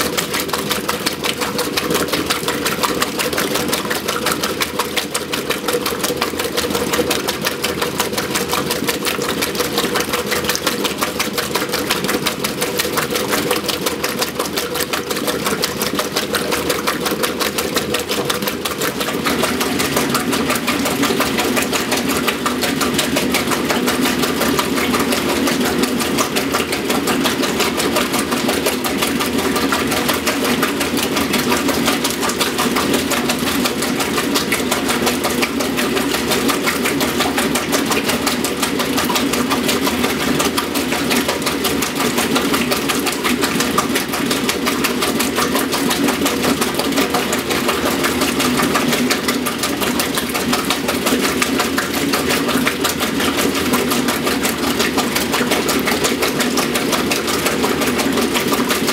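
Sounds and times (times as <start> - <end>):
washing machine agitating: 0.0 - 58.9
water sloshing: 0.0 - 58.9.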